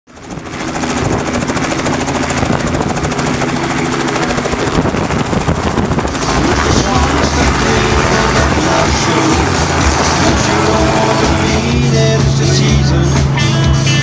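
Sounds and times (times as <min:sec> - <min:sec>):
helicopter rotor chopping: 0:00.1 - 0:14.0
piston engine drone: 0:01.0 - 0:14.0.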